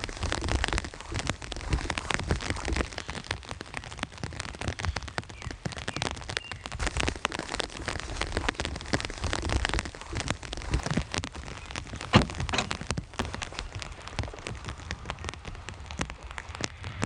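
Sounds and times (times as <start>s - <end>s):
rain falling: 0.0s - 17.0s
raindrops ticking on a surface: 0.0s - 17.0s.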